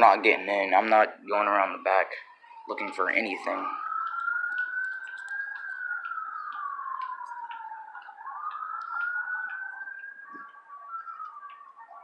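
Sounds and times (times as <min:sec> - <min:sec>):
emergency siren wailing: 0:00.0 - 0:12.0.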